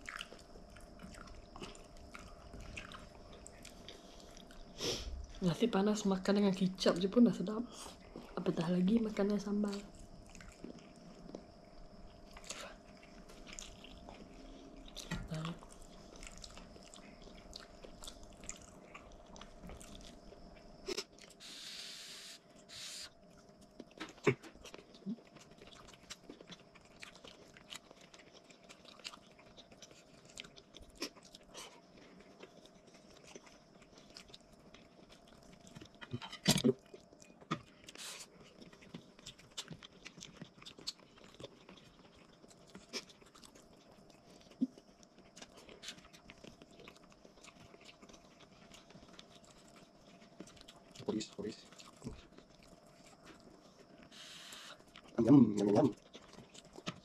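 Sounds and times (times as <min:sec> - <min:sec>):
chewing and crunching: 0:00.0 - 0:21.6, 0:22.4 - 0:57.0.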